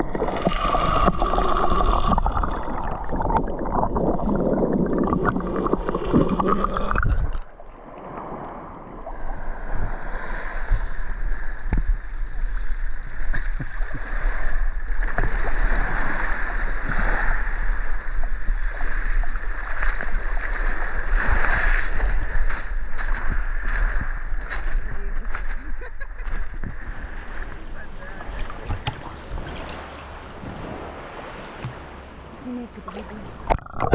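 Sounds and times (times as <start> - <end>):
sea water washing and churning: 0.0 - 33.9.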